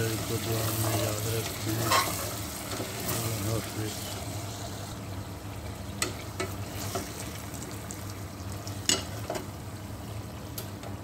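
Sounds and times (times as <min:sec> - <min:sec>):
curry sizzling in a pot: 0:00.0 - 0:10.8.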